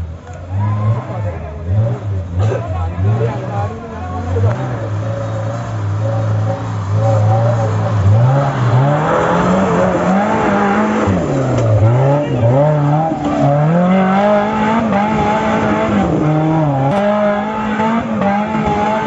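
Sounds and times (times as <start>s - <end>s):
engine revving hard: 0.6s - 19.0s.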